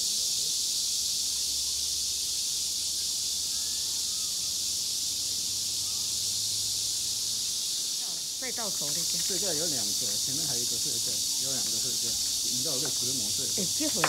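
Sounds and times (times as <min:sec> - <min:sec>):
cicadas buzzing: 0:00.0 - 0:14.0
faint chirps: 0:00.0 - 0:14.0.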